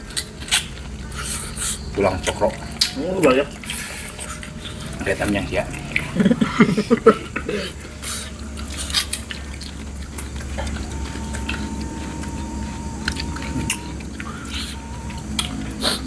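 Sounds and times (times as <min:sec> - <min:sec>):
mouth and bone clicks: 0:00.0 - 0:06.2, 0:07.7 - 0:16.0
chewing and biting: 0:00.0 - 0:16.0.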